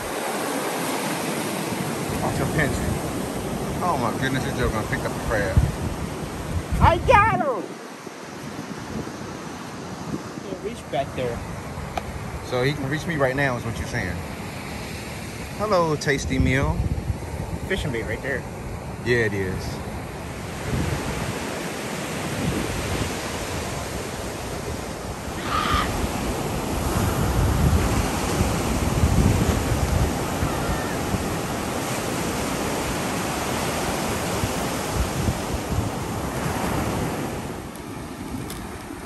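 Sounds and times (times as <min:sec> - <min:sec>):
ocean surf washing in: 0:00.0 - 0:39.0
wind buffeting microphone: 0:00.0 - 0:39.0.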